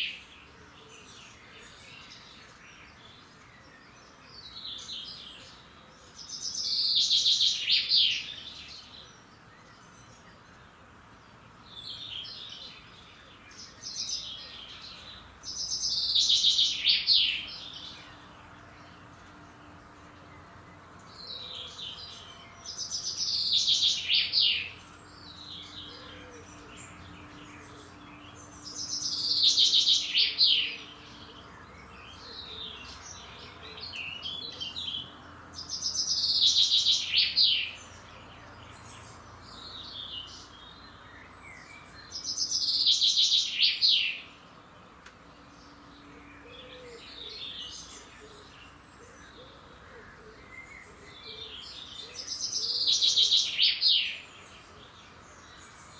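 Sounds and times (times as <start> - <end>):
quiet bird chirping: 0.0 - 55.9
songbird singing: 0.0 - 55.9.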